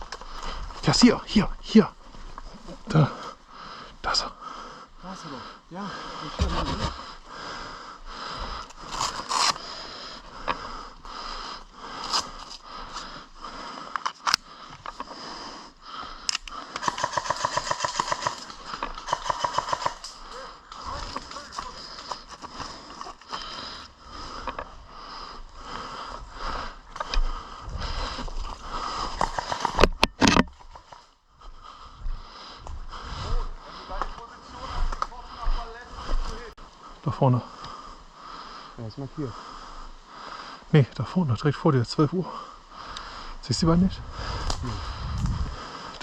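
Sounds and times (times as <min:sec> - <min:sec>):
breathy sniffing: 0:02.5 - 0:30.4, 0:31.3 - 0:40.7, 0:42.2 - 0:46.0.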